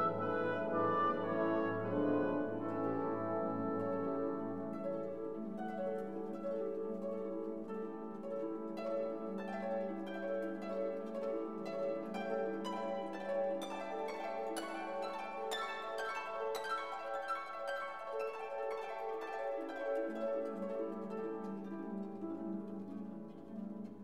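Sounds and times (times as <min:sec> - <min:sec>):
plucked notes: 0:00.0 - 0:24.0.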